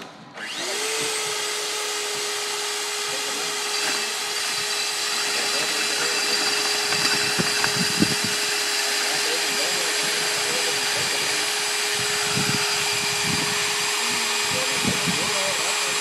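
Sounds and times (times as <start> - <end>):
core drill motor whine: 0.0 - 16.0.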